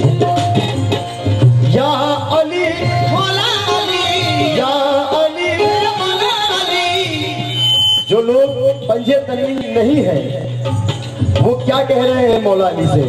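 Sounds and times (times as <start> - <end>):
harmonium playing: 0.0 - 10.9.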